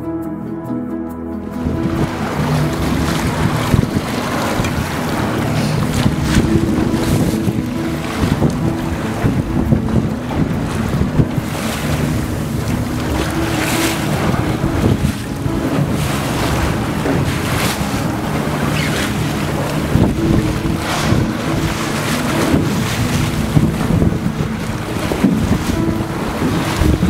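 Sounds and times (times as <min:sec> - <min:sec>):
boat engine hum: 0:00.0 - 0:27.0
choppy sea water: 0:01.4 - 0:27.0
wind buffeting microphone: 0:01.4 - 0:27.0.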